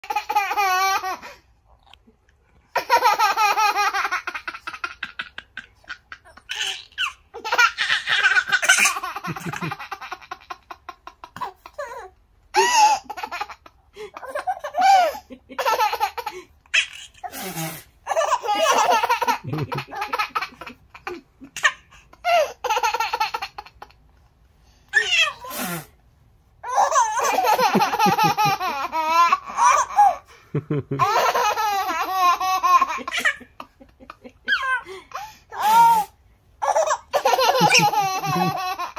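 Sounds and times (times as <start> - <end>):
baby laughing: 0.0 - 1.4, 2.7 - 17.4, 18.1 - 24.0, 26.6 - 30.3, 30.9 - 36.0, 36.6 - 38.9.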